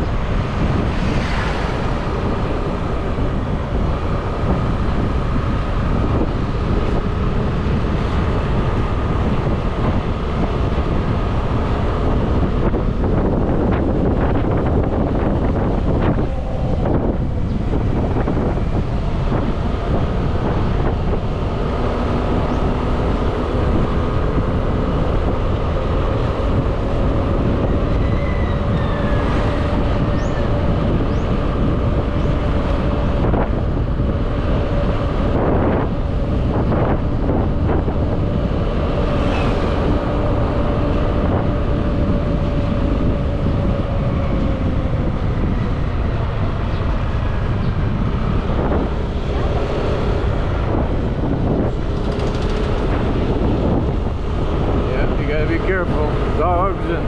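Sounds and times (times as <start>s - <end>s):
motorbike engine cruising: 0.0s - 57.0s
wind on microphone: 0.0s - 57.0s.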